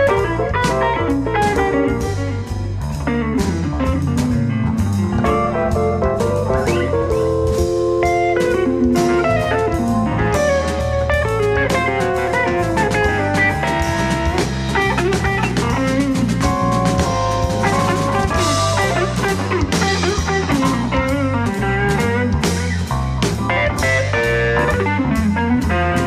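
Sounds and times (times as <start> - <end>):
blues band playing: 0.0 - 26.0.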